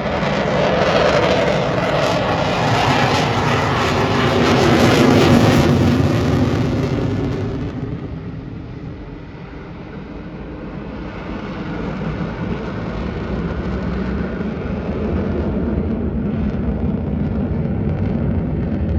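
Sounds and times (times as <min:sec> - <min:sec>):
aircraft engine rumble: 0:00.0 - 0:18.9.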